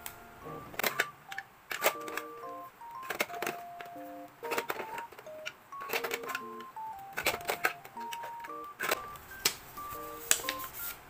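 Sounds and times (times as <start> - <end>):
light melody of clear notes: 0.0 - 11.0.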